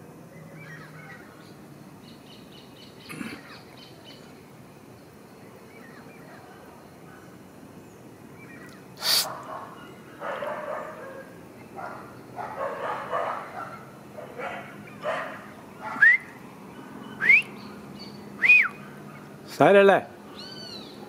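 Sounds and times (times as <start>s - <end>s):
birds chirping faintly: 0.0s - 21.0s.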